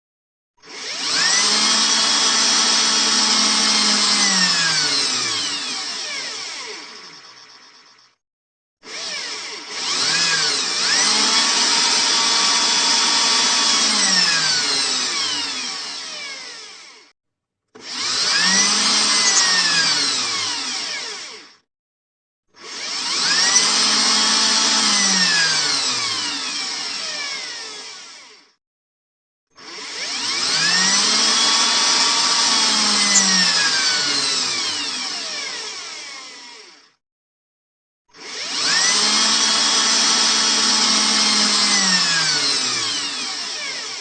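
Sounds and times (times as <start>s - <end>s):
power drill whining: 0.6s - 8.2s, 8.8s - 17.2s, 17.8s - 21.7s, 22.5s - 28.6s, 29.6s - 37.0s, 38.1s - 44.0s.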